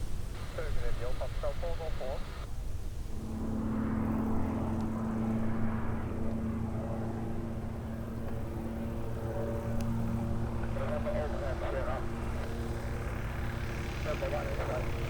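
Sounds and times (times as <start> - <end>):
propeller aircraft engine running: 0.0 - 15.0.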